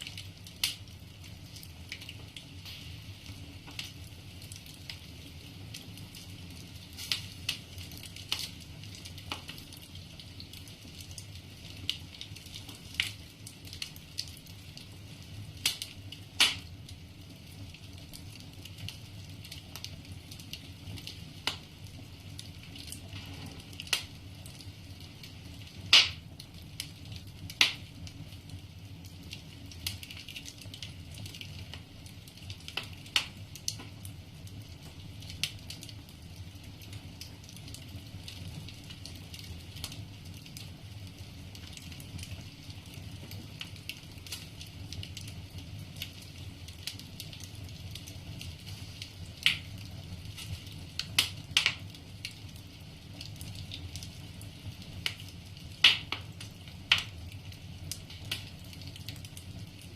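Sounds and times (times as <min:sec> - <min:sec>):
sharp pops from burning logs: 0:00.0 - 0:59.9
wood fire crackling: 0:00.0 - 0:59.9.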